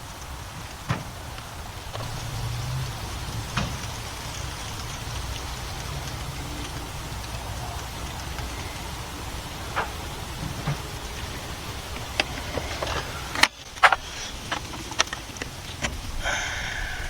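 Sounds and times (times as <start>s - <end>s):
oil pouring through a funnel: 1.2s - 17.0s.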